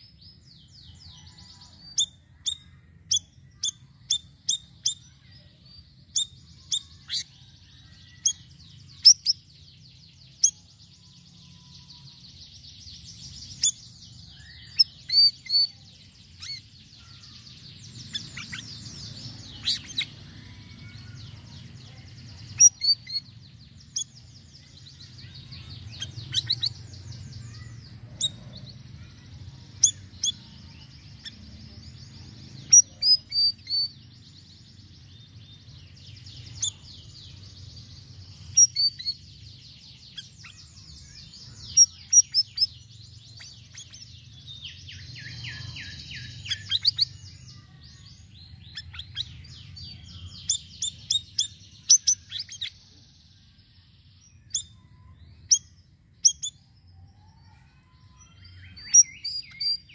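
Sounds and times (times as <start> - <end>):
songbird chirping and trilling: 0.0 - 59.9.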